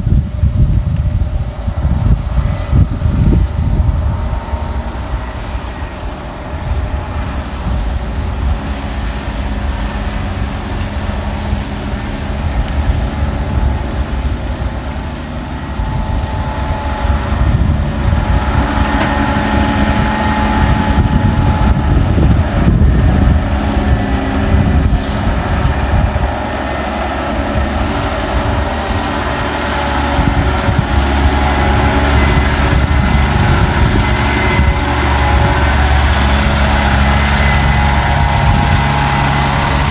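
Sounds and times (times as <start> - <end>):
diesel truck engine: 0.0 - 39.9.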